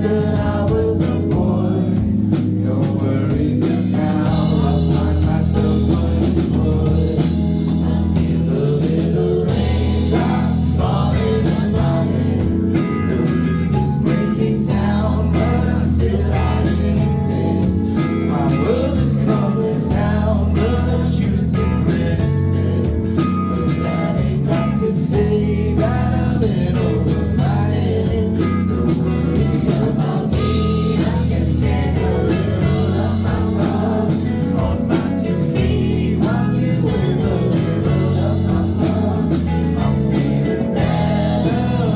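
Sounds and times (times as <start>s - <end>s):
bass line: 0.0s - 41.9s
drum kit: 0.0s - 41.9s
guitar: 0.0s - 41.9s
person singing: 0.0s - 41.9s.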